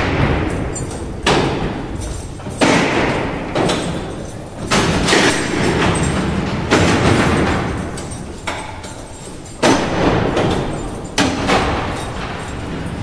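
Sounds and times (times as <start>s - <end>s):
heavy percussion hits: 0.0s - 8.6s, 9.5s - 13.0s.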